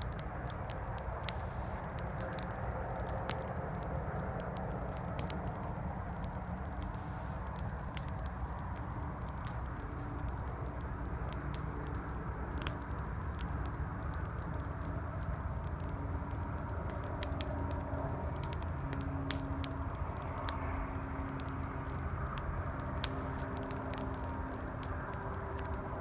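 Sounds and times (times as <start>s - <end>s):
campfire crackling and popping: 0.0s - 26.0s
highway traffic rumble: 0.0s - 26.0s.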